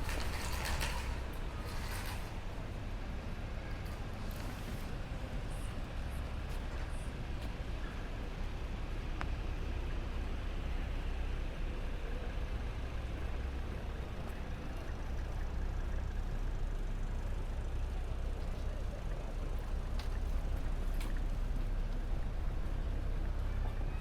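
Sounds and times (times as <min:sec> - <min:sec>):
city background din: 0:00.0 - 0:24.0
vehicle traffic rumble: 0:00.0 - 0:24.0.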